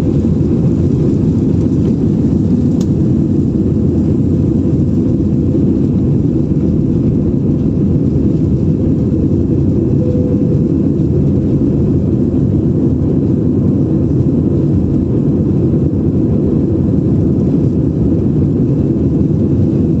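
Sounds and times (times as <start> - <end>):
airliner engine rumble: 0.0 - 20.0.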